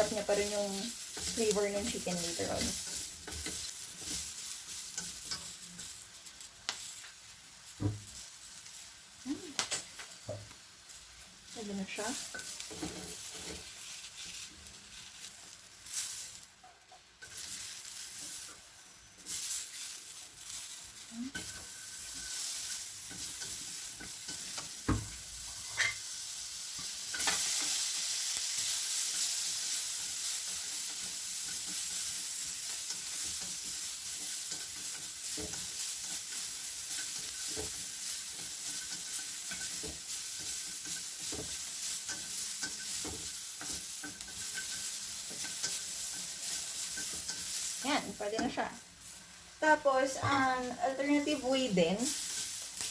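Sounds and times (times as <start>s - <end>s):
beans sizzling in a pan: 0.0s - 52.9s.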